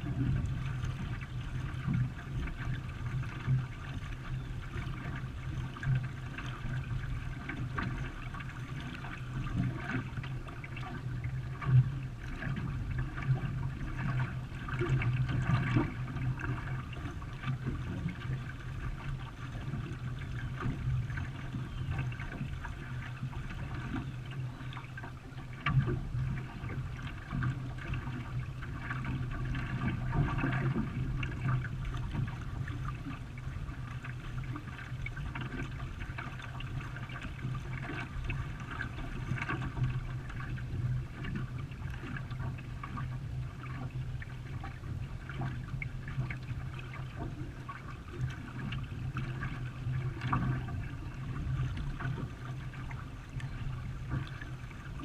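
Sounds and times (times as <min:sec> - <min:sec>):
water splashing around canoe: 0:00.0 - 0:55.0.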